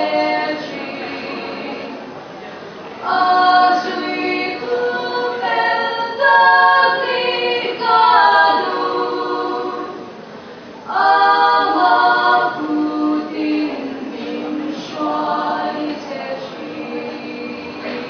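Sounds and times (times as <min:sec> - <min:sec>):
women singing in harmony: 0:00.0 - 0:02.1, 0:03.0 - 0:10.2, 0:10.8 - 0:18.0.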